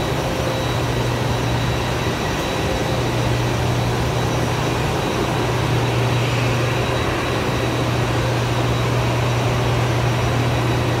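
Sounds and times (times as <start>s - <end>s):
machine drone with low hum: 0.0s - 11.0s.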